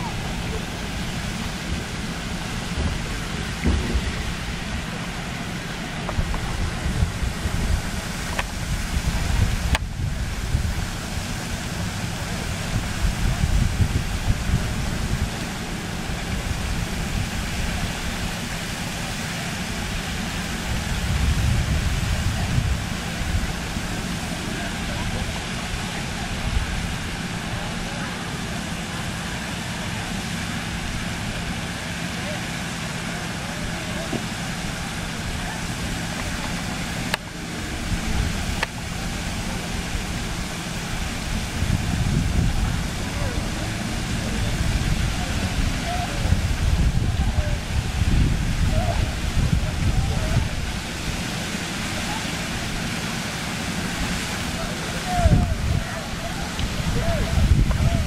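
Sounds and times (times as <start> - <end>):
wind buffeting microphone: 0.0 - 27.6, 33.9 - 58.0
steady rushing hiss: 0.0 - 58.0.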